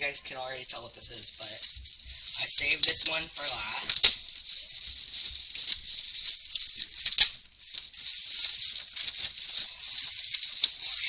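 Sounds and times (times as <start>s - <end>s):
plastic and cardboard rustling: 0.0s - 11.0s
sharp clicks: 0.0s - 11.0s.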